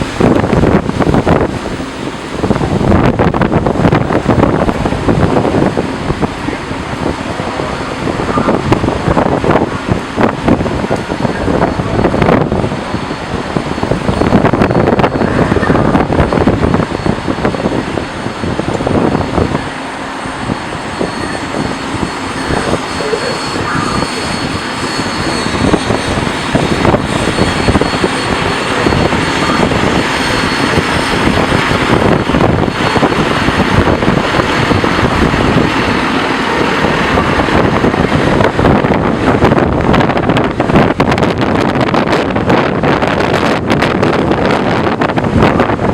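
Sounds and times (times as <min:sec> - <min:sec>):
strong wind buffeting microphone: 0:00.0 - 0:45.9.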